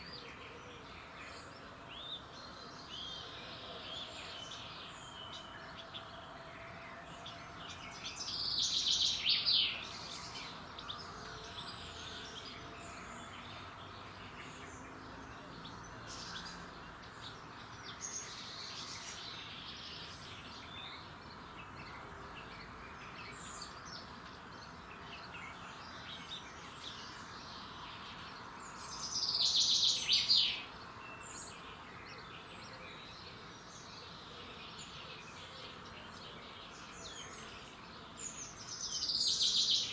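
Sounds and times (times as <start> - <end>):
loud bird song phrases: 0.0 - 39.9
many birds chirping: 0.0 - 39.9
outdoor background noise: 0.0 - 39.9.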